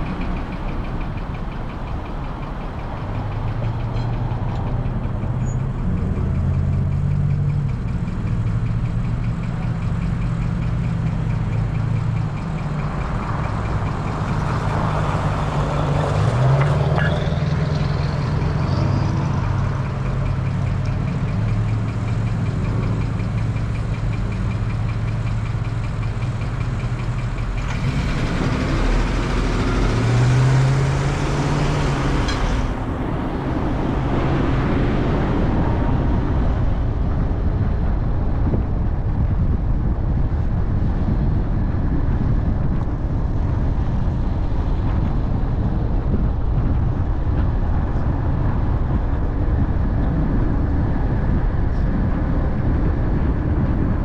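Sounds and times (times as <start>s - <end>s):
car engine running: 0.0s - 54.0s
road noise: 0.0s - 54.0s.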